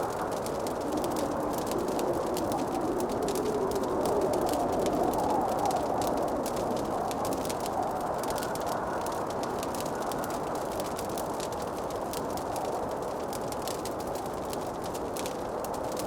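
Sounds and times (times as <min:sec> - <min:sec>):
fire snaps and pops: 0:00.0 - 0:16.0
wood fire crackling: 0:00.0 - 0:16.0.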